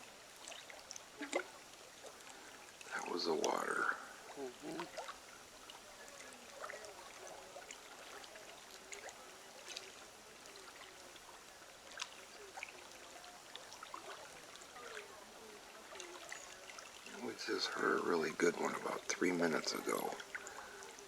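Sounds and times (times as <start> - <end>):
trickle of running water: 0.0 - 21.0.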